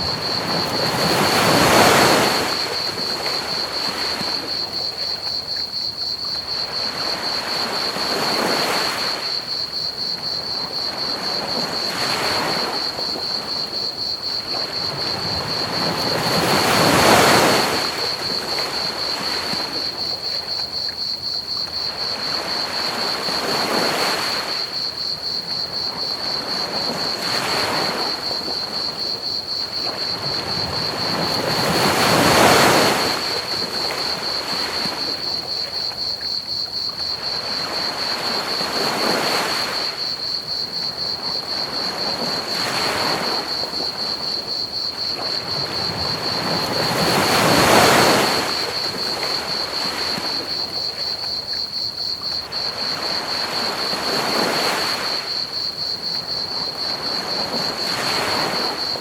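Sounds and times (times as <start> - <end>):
ocean waves breaking on beach: 0.0 - 5.8, 6.5 - 20.4, 21.8 - 35.9, 36.9 - 59.0
crickets chirping: 0.0 - 59.0.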